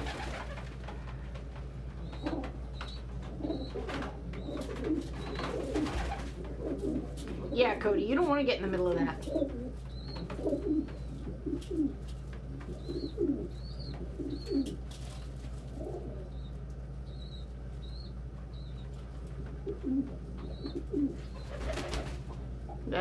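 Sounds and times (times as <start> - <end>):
pigeons cooing: 0.0 - 7.8, 9.1 - 23.0
steady low hum: 0.0 - 23.0.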